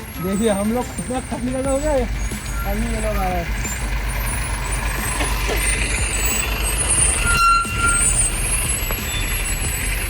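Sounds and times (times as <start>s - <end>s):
idling traffic engines rumbling: 0.0s - 10.0s.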